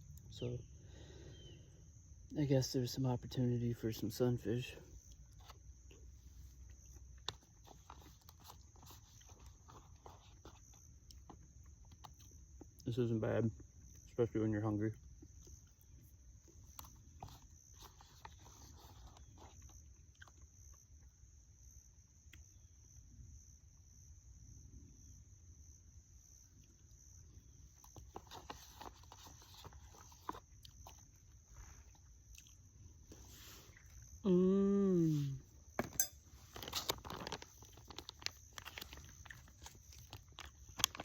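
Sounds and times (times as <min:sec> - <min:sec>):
high insect trill: 0:00.0 - 0:41.0.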